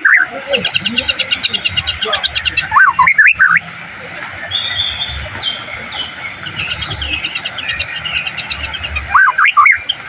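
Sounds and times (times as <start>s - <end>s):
bird singing whistles and chatter: 0.0s - 10.0s.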